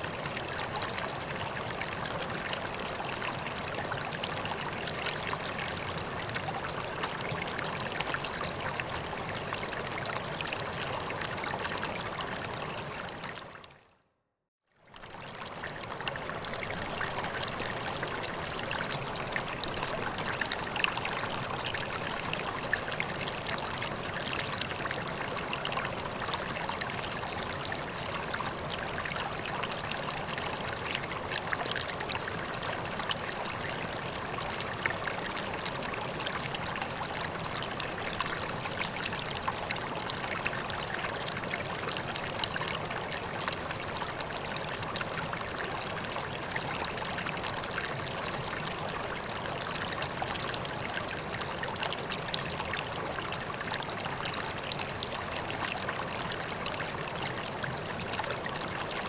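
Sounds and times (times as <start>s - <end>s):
water trickling into a pond: 0.0s - 13.9s, 14.7s - 59.0s.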